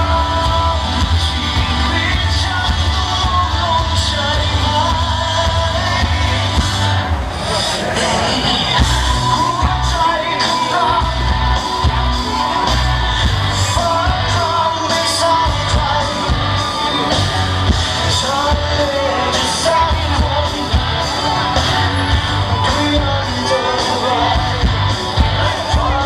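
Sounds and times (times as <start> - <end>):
pop-rock song with singer: 0.0 - 26.0.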